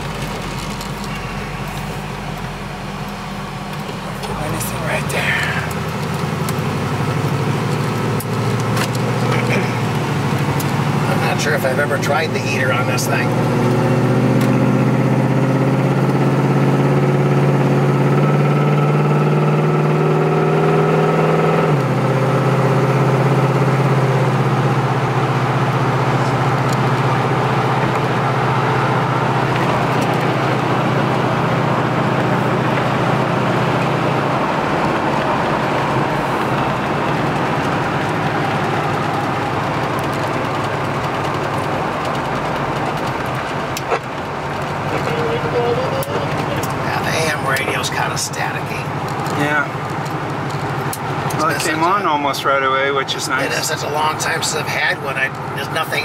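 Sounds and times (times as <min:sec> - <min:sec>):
car engine from inside cabin: 0:00.0 - 0:56.0.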